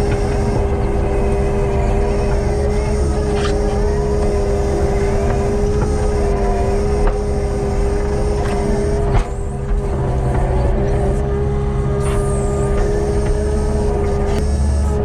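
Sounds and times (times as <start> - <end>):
diesel engine running under load: 0.0 - 15.0
hydraulic whine: 0.0 - 15.0.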